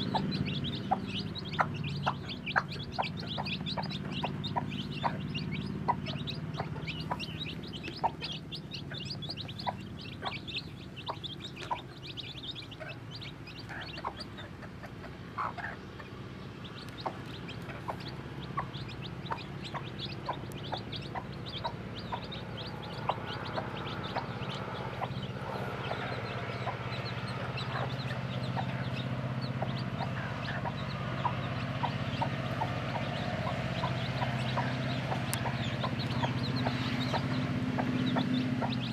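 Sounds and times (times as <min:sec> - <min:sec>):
chicks pecking feed: 0:00.0 - 0:38.9
chicks peeping: 0:00.0 - 0:38.9
hen clucking: 0:00.0 - 0:38.9.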